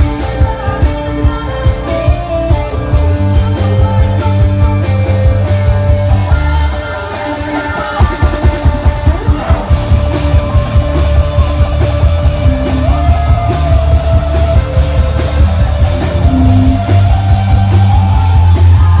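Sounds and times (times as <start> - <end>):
drum kit: 0.0 - 6.8, 7.4 - 19.0
bass guitar: 0.0 - 19.0
electric guitars: 0.0 - 19.0.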